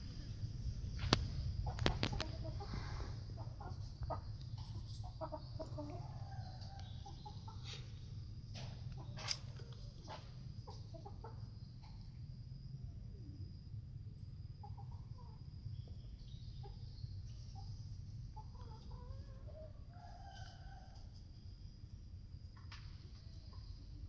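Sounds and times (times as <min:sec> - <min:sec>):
chickens clucking: 0:00.9 - 0:12.7, 0:14.3 - 0:21.7, 0:22.6 - 0:24.0.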